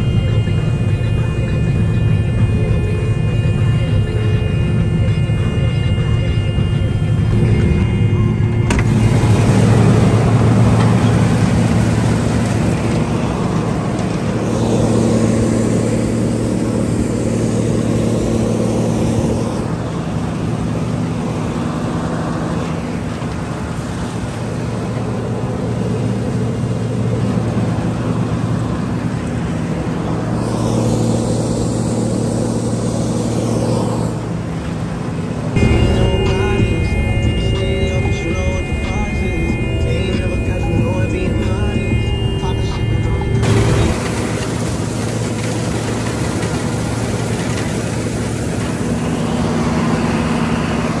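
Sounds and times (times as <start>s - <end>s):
combine engine and machinery drone: 0.0s - 51.0s.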